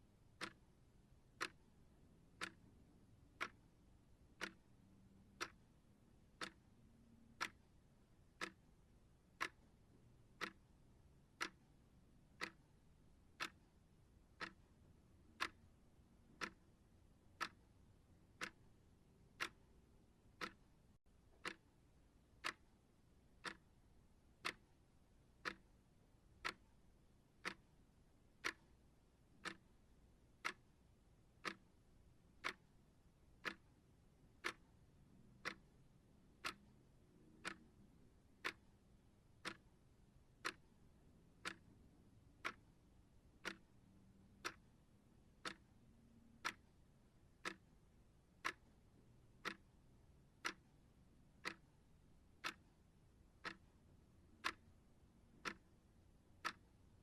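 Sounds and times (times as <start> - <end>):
clock ticking: 0.2 - 21.8, 22.4 - 57.0.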